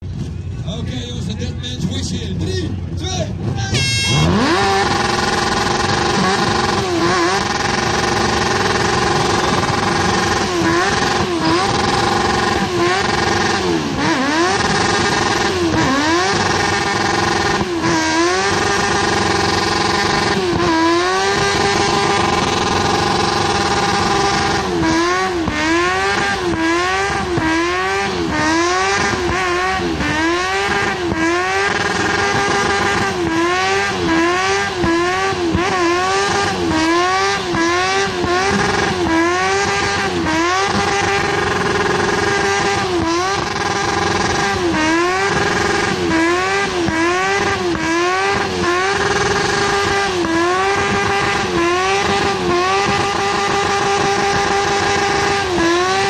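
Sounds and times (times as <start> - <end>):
car engine revving: 0.0 - 56.0
spinning tyres hissing: 4.2 - 56.0.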